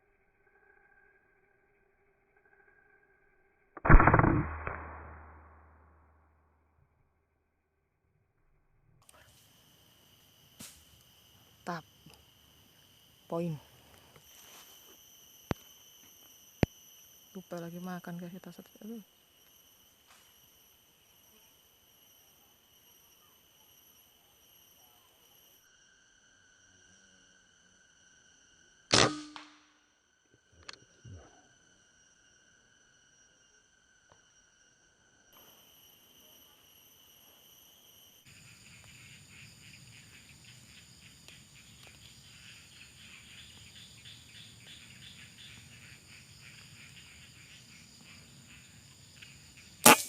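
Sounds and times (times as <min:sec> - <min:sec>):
insect chirring: 0:00.0 - 0:06.6, 0:09.0 - 0:50.0.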